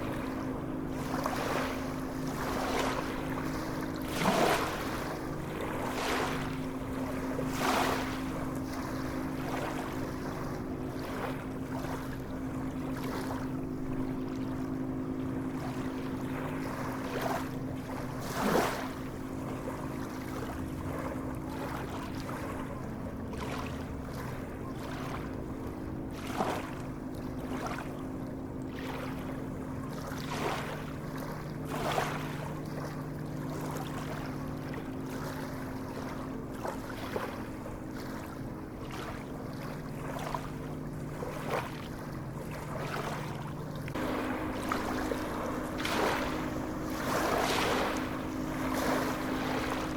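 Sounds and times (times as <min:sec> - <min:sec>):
sea waves splashing: 0:00.0 - 0:25.4, 0:26.1 - 0:28.0, 0:28.7 - 0:49.9
steady low hum: 0:00.0 - 0:49.9.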